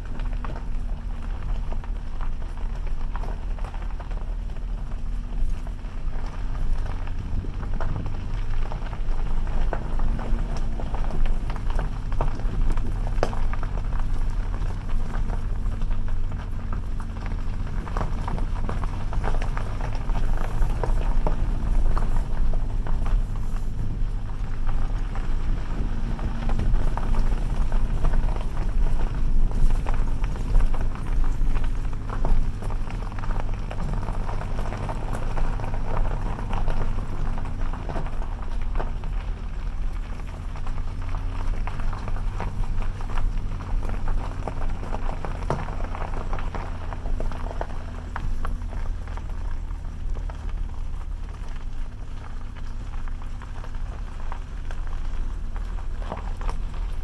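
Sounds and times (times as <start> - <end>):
gravel crackling under tyres: 0.0 - 57.0
vehicle engine hum: 0.0 - 57.0
vehicle rattling over bumps: 0.0 - 57.0.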